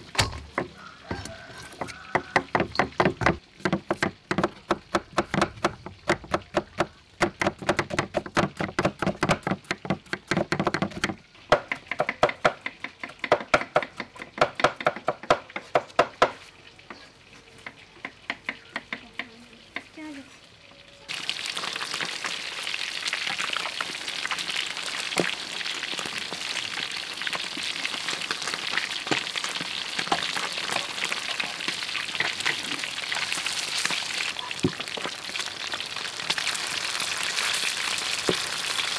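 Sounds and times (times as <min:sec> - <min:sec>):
fish deep-frying in oil: 0:00.0 - 0:18.6, 0:20.7 - 0:38.9.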